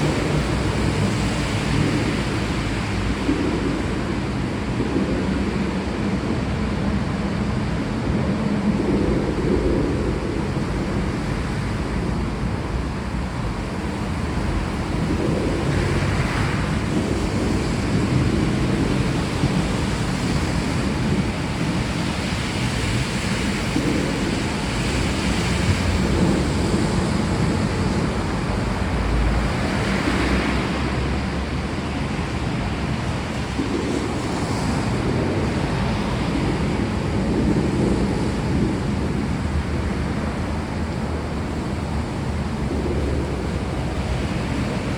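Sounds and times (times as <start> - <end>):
heavy rain falling: 0.0 - 7.0, 7.6 - 44.9.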